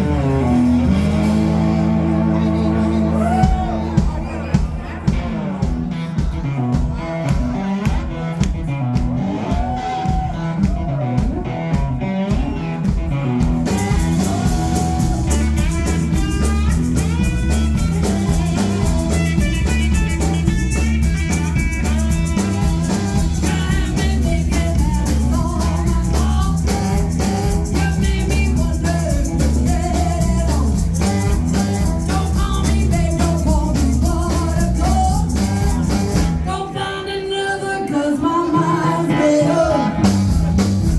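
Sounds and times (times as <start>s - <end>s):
live rock band playing: 0.0s - 37.1s, 37.9s - 40.9s.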